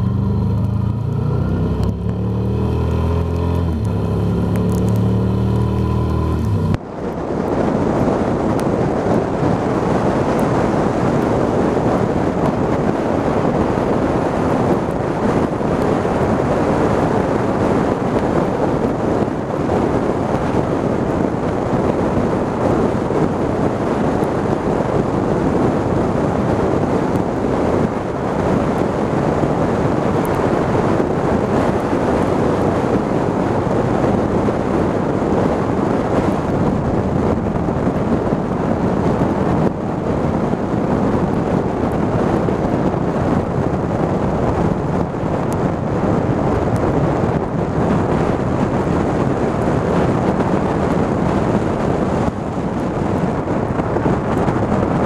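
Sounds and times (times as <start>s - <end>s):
motorcycle road and engine noise: 0.0s - 55.0s
wind buffeting microphone: 0.0s - 55.0s.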